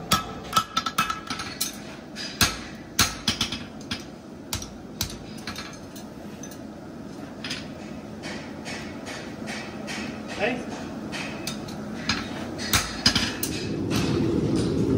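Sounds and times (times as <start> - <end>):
hammer striking hot steel on anvil: 0.0 - 6.7, 7.4 - 14.8
gas forge running: 0.0 - 14.9.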